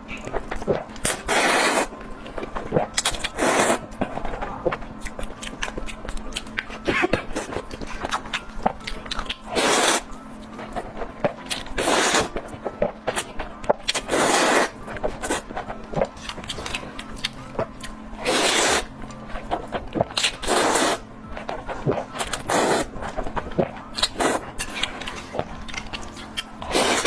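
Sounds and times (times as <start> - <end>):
wet chewing: 2.3 - 27.0.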